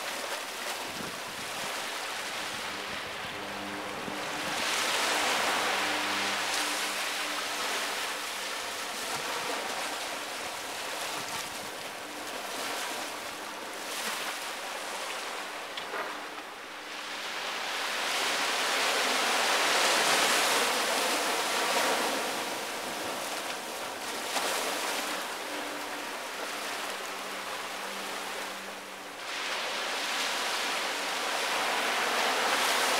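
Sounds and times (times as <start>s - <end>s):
small waves breaking on sand: 0.0s - 32.9s.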